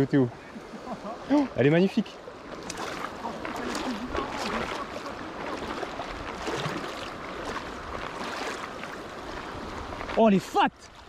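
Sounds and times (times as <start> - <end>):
river water rushing and lapping: 0.0 - 11.0.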